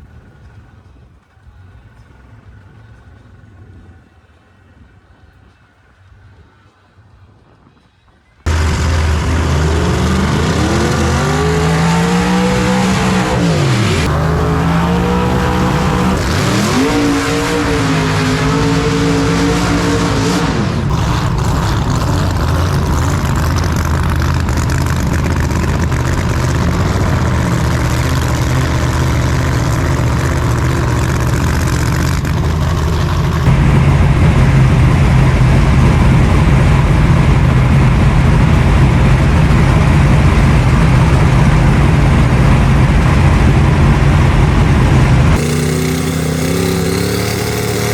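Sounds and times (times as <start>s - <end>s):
race truck engine running: 8.4s - 47.9s.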